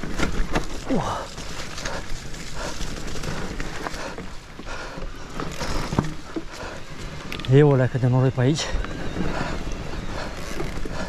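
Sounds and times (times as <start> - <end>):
bike rattling down rough trail: 0.0 - 11.0
tyres rolling over dirt: 0.0 - 11.0.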